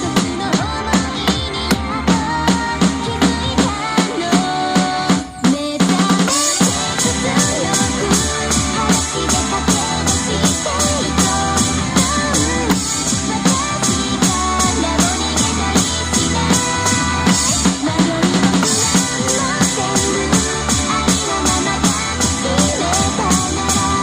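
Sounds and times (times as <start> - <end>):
drum kit playing: 0.0 - 24.0
pop song with sung melody: 0.0 - 24.0.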